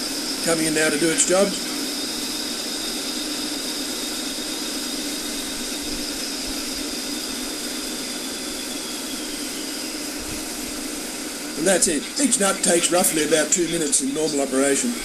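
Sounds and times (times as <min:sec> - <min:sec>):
lathe motor running: 0:00.0 - 0:15.0.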